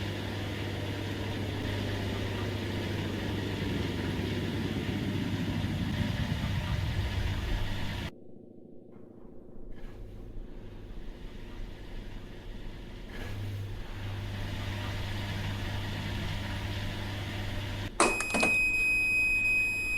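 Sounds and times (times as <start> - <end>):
washing machine humming: 0.0 - 8.1, 9.8 - 19.9.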